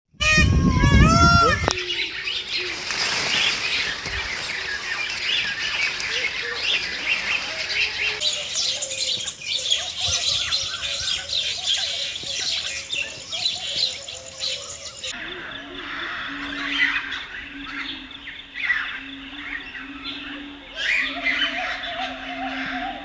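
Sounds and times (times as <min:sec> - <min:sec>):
songbirds chirping: 0:01.6 - 0:23.0.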